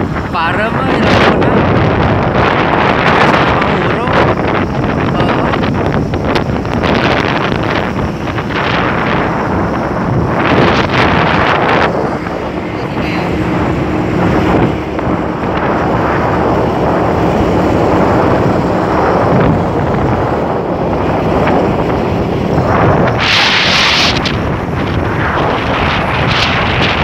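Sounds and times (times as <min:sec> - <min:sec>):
road traffic rumble: 0:00.0 - 0:27.0
wind buffeting microphone: 0:00.0 - 0:27.0.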